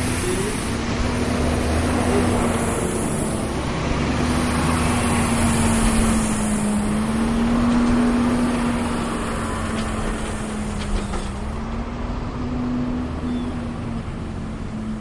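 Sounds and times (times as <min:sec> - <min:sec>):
truck engine drone: 0:00.0 - 0:15.0
tyre and road noise: 0:00.0 - 0:15.0.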